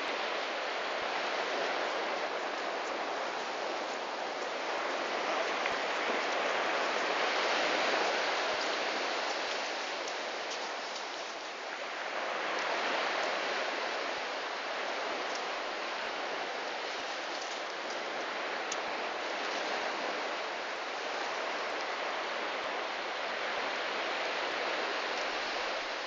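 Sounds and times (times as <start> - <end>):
surf washing on beach: 0.0 - 26.0.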